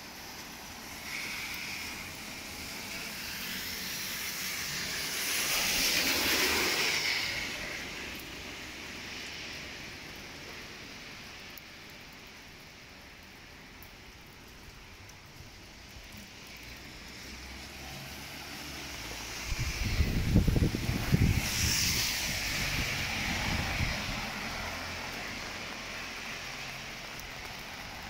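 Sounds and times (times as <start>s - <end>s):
heavy rain hissing: 0.0s - 28.0s
vehicle tyres on wet road: 0.0s - 28.0s.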